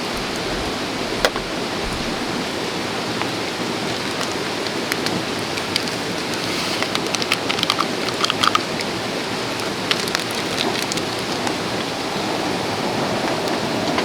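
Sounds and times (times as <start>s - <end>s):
stream flowing over stones: 0.0s - 14.0s.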